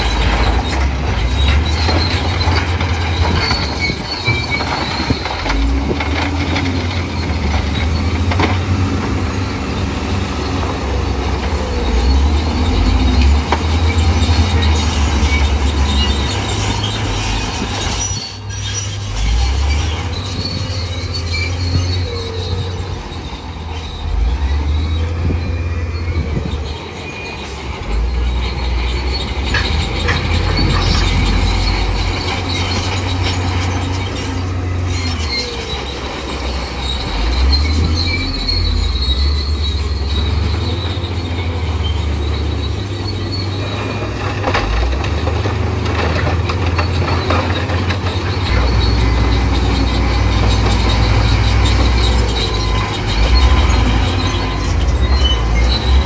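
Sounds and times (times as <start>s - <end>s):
bulldozer diesel engine: 0.0s - 56.0s
steel tracks squealing and clanking: 0.0s - 56.0s.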